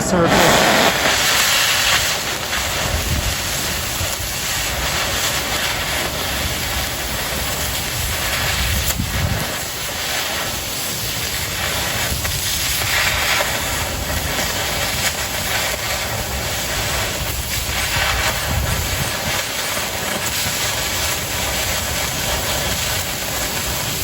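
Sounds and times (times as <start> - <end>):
cutting torch hissing: 0.0 - 24.0.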